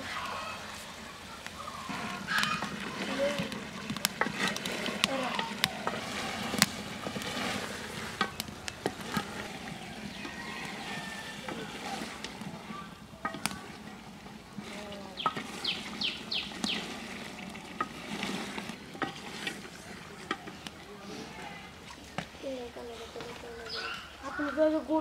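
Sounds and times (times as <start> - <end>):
curry simmering hiss: 0.0 - 25.0.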